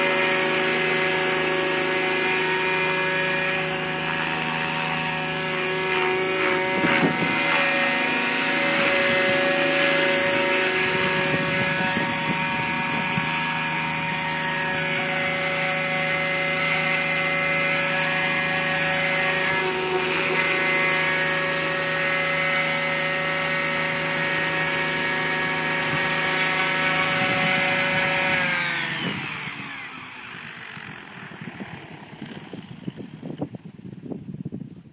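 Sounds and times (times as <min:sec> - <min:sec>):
rotor noise: 0:00.0 - 0:33.6
rc helicopter motor whine: 0:00.0 - 0:34.7.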